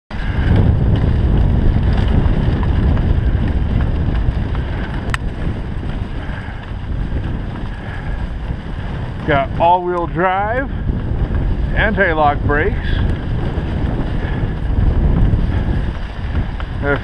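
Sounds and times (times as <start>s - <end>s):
sled runners on packed snow: 0.1s - 17.0s
wind buffeting microphone: 0.1s - 17.0s.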